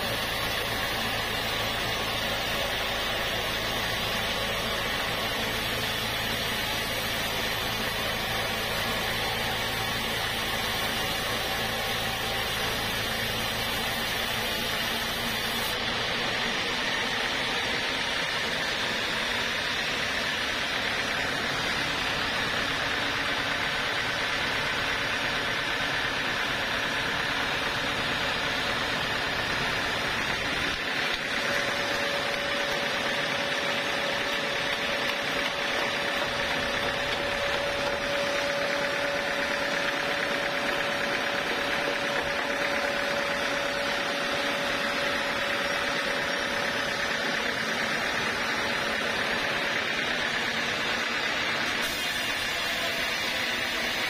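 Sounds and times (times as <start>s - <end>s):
band saw cutting wood: 0.0s - 54.0s
steady whine: 0.0s - 54.0s.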